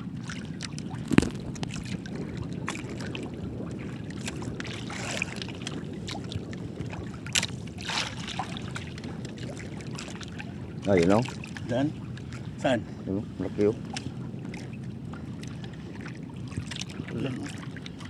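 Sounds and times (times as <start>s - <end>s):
boat engine low rumble: 0.0s - 18.0s.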